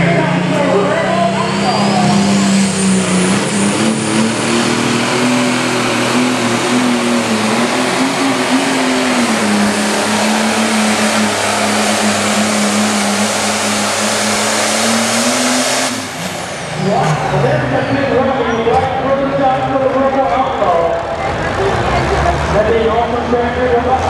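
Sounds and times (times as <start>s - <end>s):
diesel tractor engine at full throttle: 0.0s - 24.0s.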